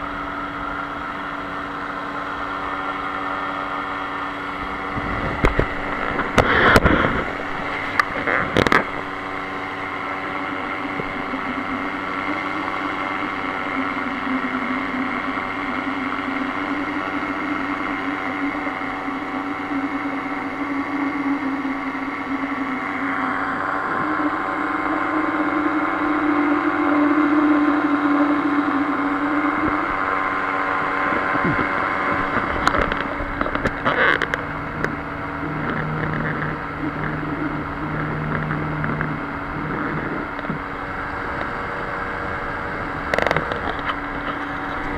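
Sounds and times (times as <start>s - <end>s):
engine and propeller running: 0.0s - 44.9s.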